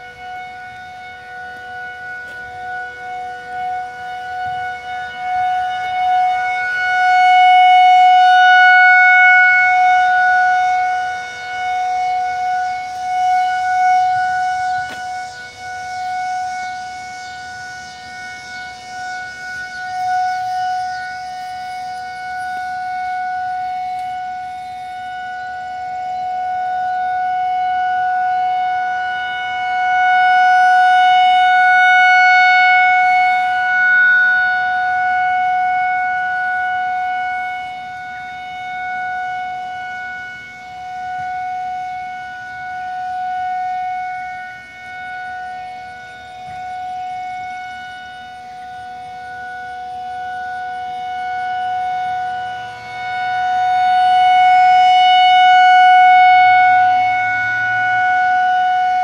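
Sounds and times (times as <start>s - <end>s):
warning siren steady tone: 0.0s - 59.0s.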